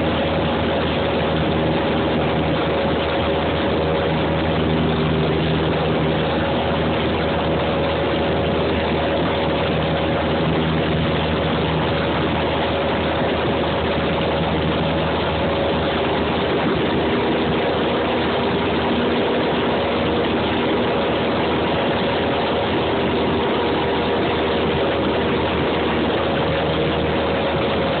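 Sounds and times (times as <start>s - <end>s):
aircraft engine and propeller: 0.0s - 28.0s.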